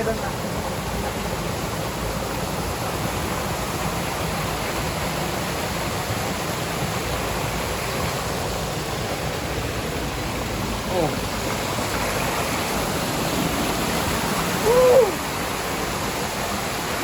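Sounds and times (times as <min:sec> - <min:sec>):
waterfall pouring: 0:00.0 - 0:17.0.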